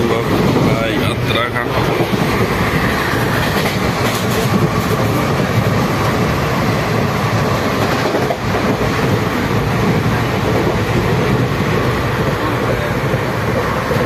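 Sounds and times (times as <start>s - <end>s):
moving train running noise: 0.0s - 14.0s.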